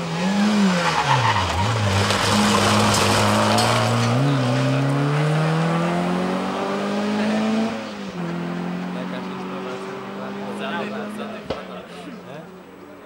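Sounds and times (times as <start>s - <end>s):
rally car engine: 0.0s - 13.0s.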